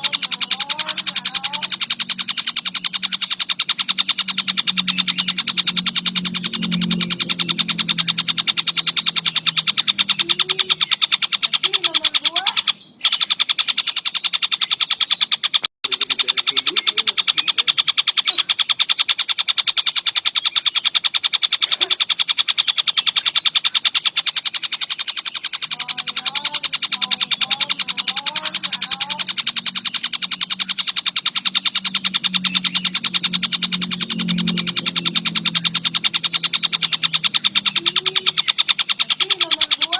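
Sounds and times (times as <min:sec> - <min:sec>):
kingfisher fast trilling call: 0:00.0 - 0:39.9
low hum: 0:00.0 - 0:39.9.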